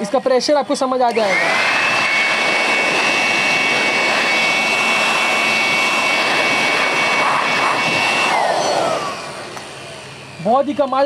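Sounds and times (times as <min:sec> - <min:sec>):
electric blower running: 0:00.0 - 0:11.0
air rushing from nozzle: 0:01.2 - 0:10.2.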